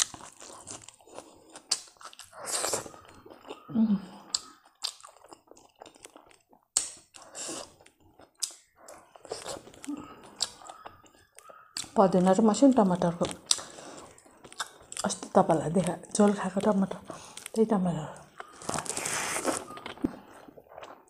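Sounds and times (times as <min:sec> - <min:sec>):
person chewing close to microphone: 0:00.0 - 0:17.6, 0:18.2 - 0:21.0.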